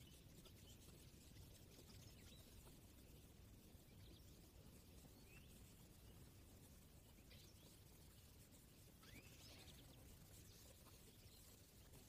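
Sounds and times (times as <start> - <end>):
goldfinch chirps: 0.0 - 12.0
steady hiss: 0.0 - 12.0.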